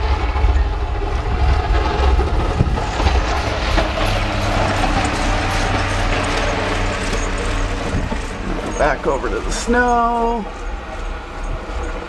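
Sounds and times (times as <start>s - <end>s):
blizzard wind hiss: 0.0s - 12.0s
truck engine rumble: 0.0s - 12.0s.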